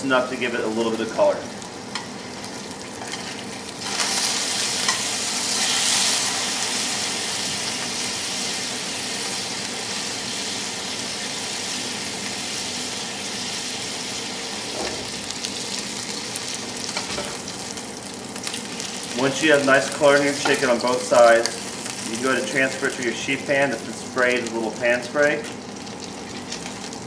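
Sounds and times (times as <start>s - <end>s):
chicken sizzling in pan: 0.0s - 27.0s.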